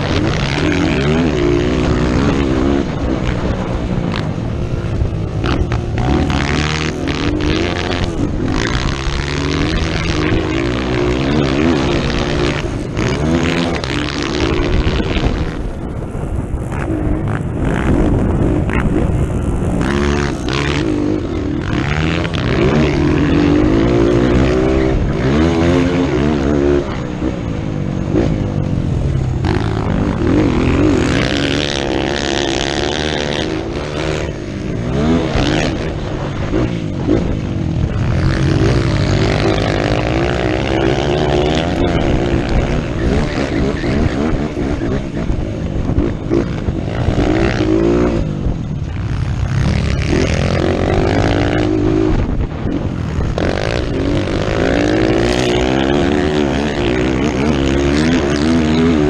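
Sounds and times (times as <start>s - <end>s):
motorcycle engine revving: 0.0s - 59.0s
rush of noise: 0.0s - 59.0s.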